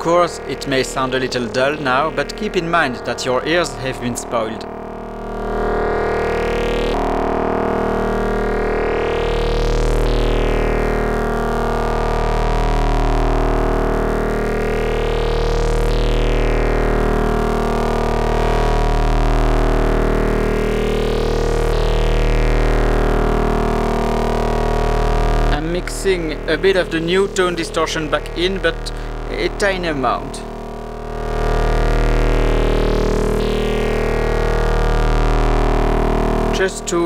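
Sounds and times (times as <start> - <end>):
synthesizer drone chord: 0.0 - 37.0.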